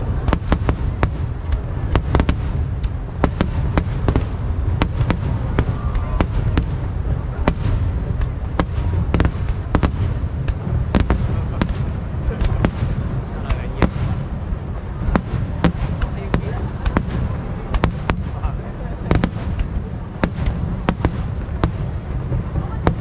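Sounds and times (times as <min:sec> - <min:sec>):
fireworks bangs and crackles: 0:00.0 - 0:23.0
low rumble of bursting shells: 0:00.0 - 0:23.0.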